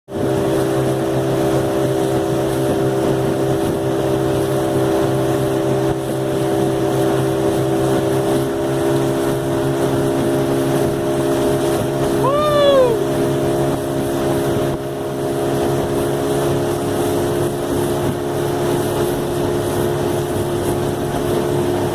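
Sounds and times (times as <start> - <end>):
outboard motor drone: 0.1 - 21.9.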